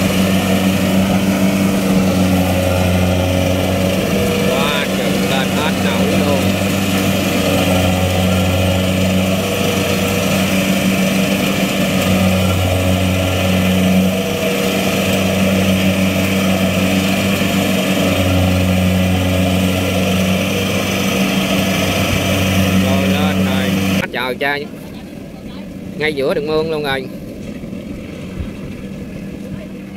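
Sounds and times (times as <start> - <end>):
harvester engine running: 0.0 - 29.9.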